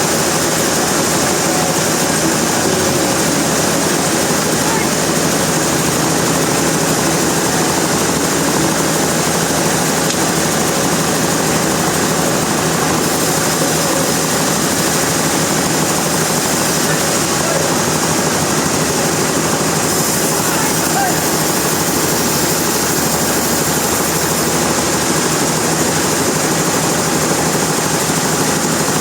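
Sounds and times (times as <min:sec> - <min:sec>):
sawmill machinery running: 0:00.0 - 0:29.0.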